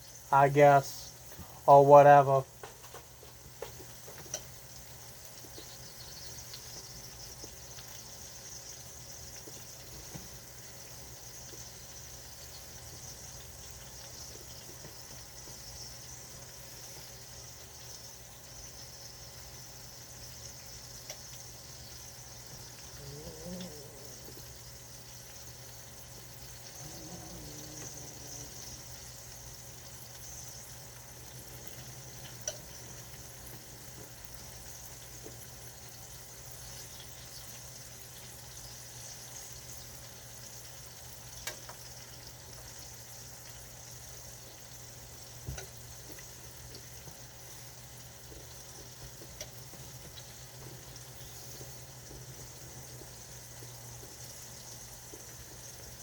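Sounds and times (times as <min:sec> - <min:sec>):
food hissing on stovetop: 0:02.7 - 0:56.0.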